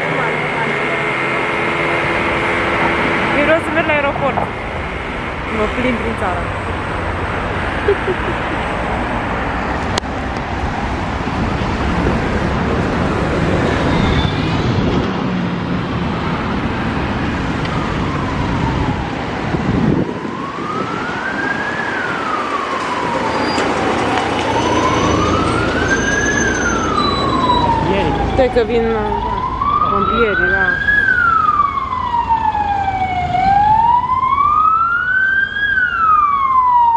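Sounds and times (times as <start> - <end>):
fire engine siren wailing: 0.0 - 36.9
heavy road traffic: 0.0 - 36.9.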